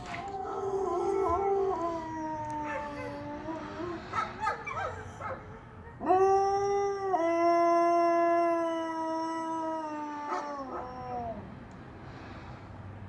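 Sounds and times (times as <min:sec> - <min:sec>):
dog howling: 0:00.0 - 0:11.4.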